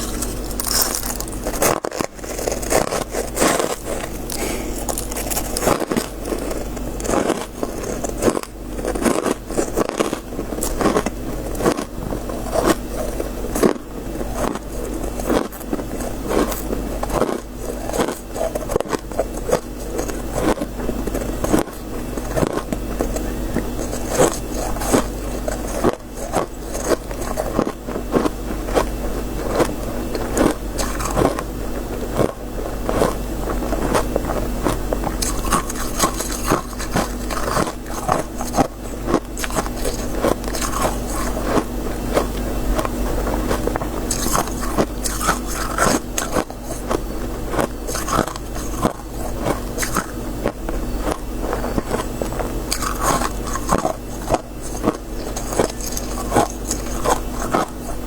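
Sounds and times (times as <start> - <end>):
person chewing crunchy frost: 0.0 - 58.0
steady low hum: 0.0 - 58.0.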